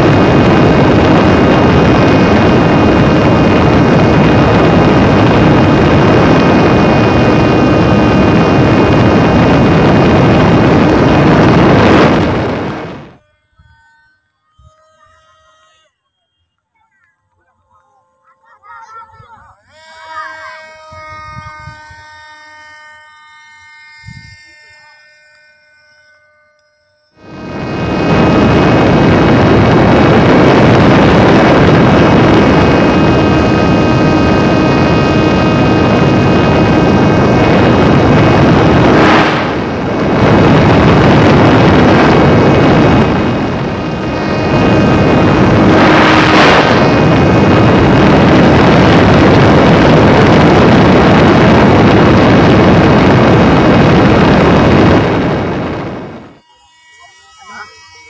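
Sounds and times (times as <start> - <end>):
wind rush over microphone: 0.0 - 13.9, 19.0 - 23.0, 23.6 - 24.8, 27.2 - 56.4
small electric motor whine: 0.0 - 18.6, 19.2 - 58.0.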